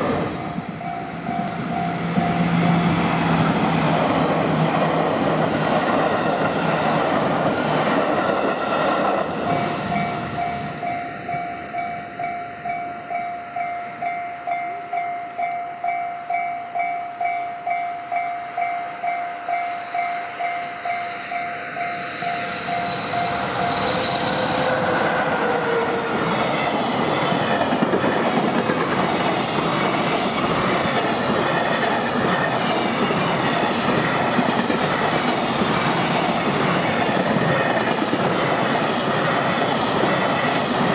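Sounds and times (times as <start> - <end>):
level-crossing alarm ringing: 0.0 - 7.1, 7.9 - 34.4
electric train running by: 0.0 - 40.9
freight train rolling past: 0.0 - 40.9.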